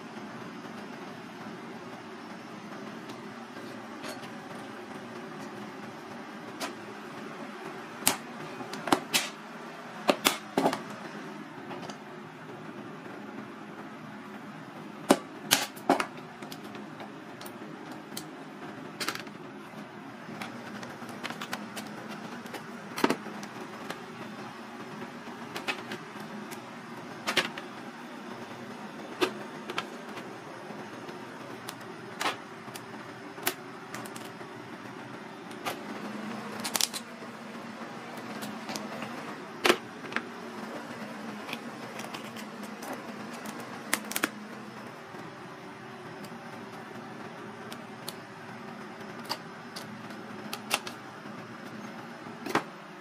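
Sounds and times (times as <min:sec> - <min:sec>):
steady hum: 0:00.0 - 0:53.0.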